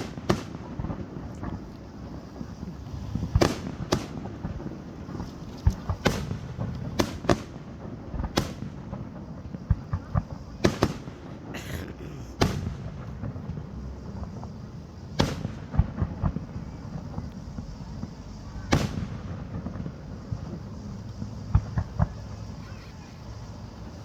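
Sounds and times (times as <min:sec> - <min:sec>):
fireworks booming: 0:00.0 - 0:05.2, 0:05.8 - 0:22.6.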